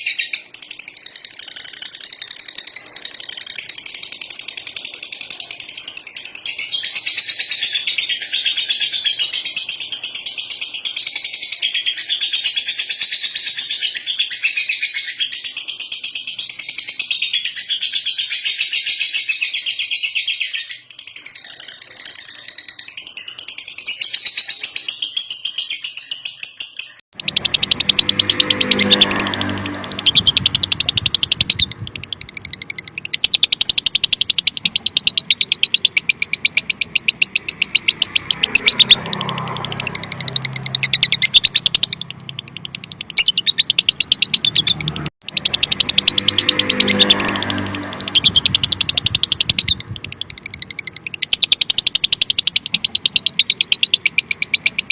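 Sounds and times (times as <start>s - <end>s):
lovebird chattering: 0.0s - 54.9s.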